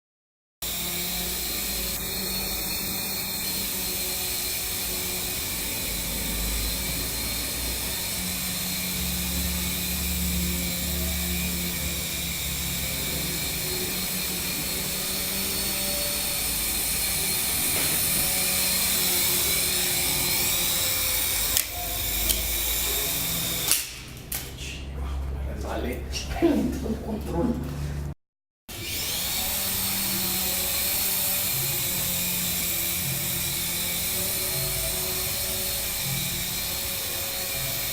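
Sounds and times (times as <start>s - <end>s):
toy helicopter rotor whining: 0.6s - 24.5s, 28.7s - 37.9s.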